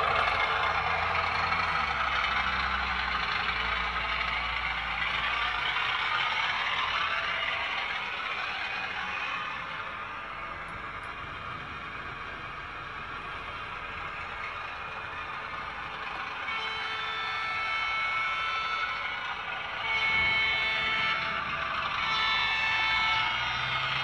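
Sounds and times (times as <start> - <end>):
model train diesel engine sound: 0.0 - 24.0.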